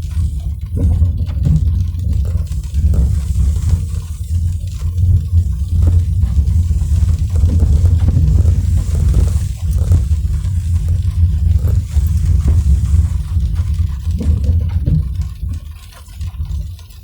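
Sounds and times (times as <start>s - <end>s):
car road rumble: 0.0s - 17.0s
light rain taps: 0.0s - 17.0s.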